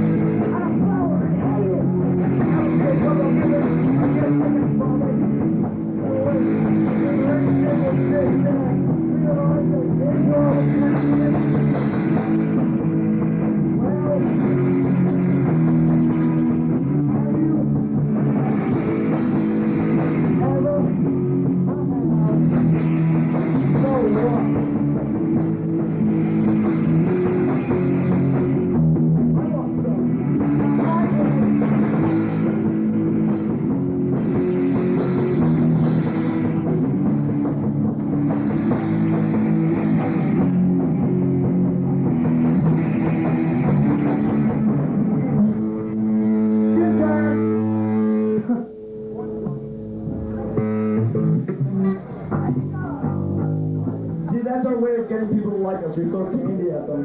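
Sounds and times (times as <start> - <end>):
drums: 0.0 - 57.0
guitar: 0.0 - 57.0.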